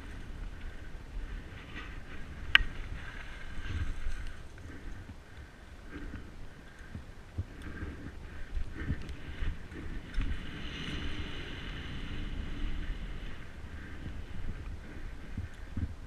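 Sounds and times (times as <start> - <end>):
mountain bike rattling on dirt trail: 0.0 - 16.0
wind buffeting microphone: 0.0 - 16.0.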